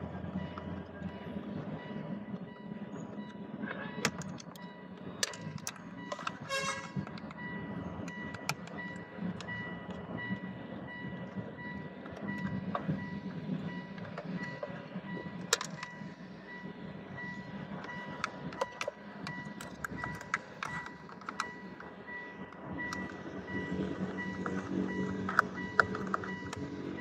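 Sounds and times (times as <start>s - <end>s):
brief electronic tone: 0.1s - 27.0s.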